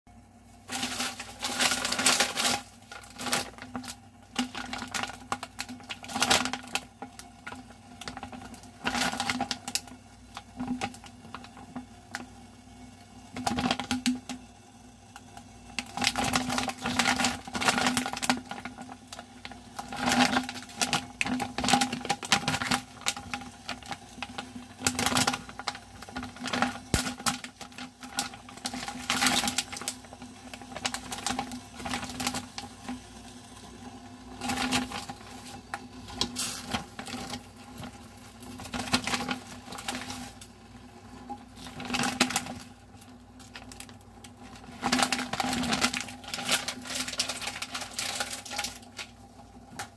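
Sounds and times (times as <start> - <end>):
faint steady hum: 0.1 - 49.9
plastic packaging crinkling: 0.7 - 12.3, 13.4 - 14.3, 15.8 - 49.9.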